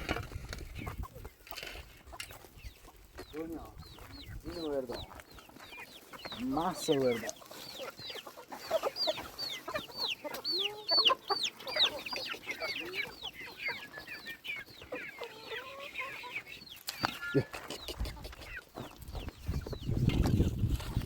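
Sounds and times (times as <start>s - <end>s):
chickens peeping: 0.0s - 21.0s.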